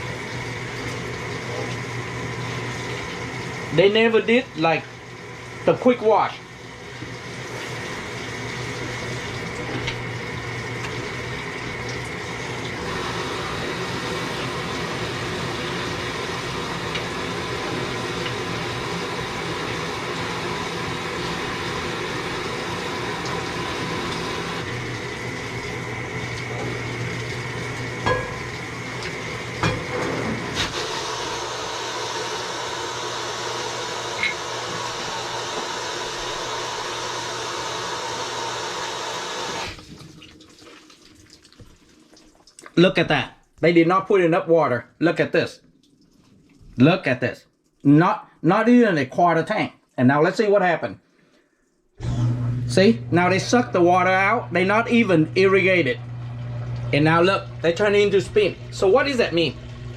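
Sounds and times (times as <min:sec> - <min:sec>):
washing machine motor hum: 0:00.0 - 0:40.6, 0:52.0 - 0:59.9
water running in: 0:00.0 - 0:43.9, 0:45.2 - 0:47.9, 0:51.8 - 0:59.9.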